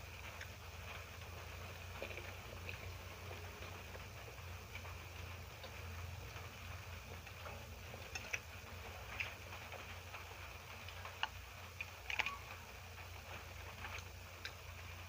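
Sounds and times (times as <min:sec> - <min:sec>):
low steady hum: 0:00.0 - 0:15.0
wet chewing clicks and smacks: 0:00.1 - 0:06.5, 0:07.9 - 0:14.8.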